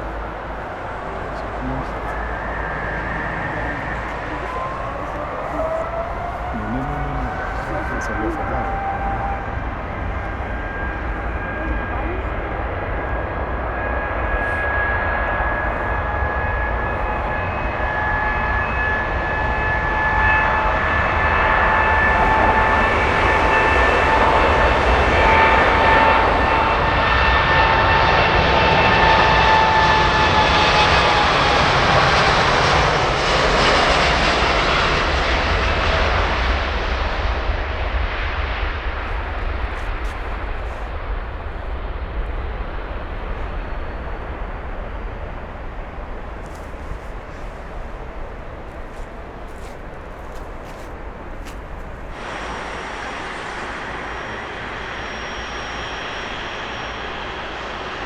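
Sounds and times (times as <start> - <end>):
jet engines passing by: 0.0 - 58.0.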